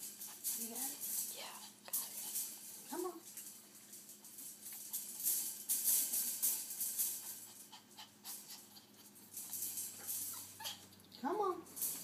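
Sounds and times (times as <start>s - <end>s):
wire pen rattling and scraping: 0.0s - 12.0s.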